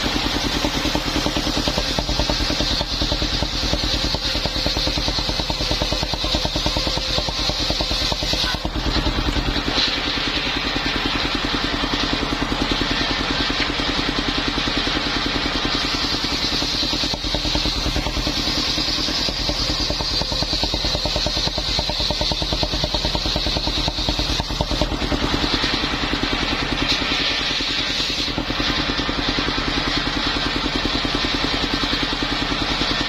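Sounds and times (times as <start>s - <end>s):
sawmill engine running: 0.0s - 33.0s.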